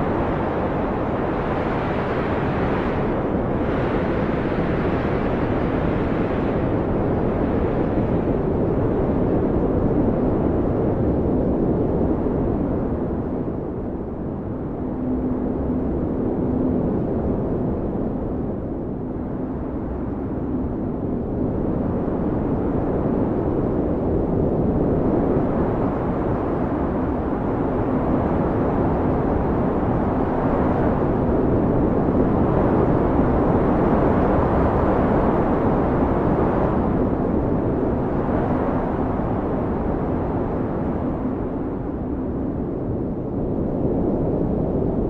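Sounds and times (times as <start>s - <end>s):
gusting snowstorm wind: 0.0s - 45.0s.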